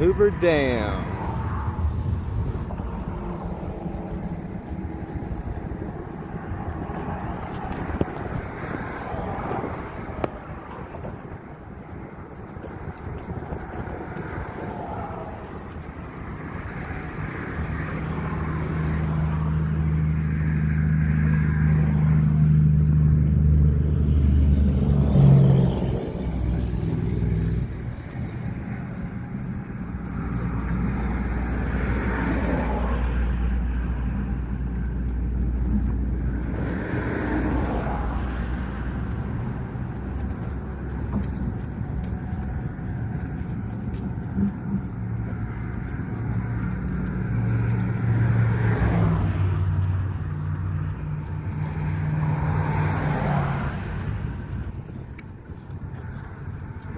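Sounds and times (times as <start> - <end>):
car engine and road noise: 0.0 - 56.9
vehicles passing by: 0.0 - 56.9.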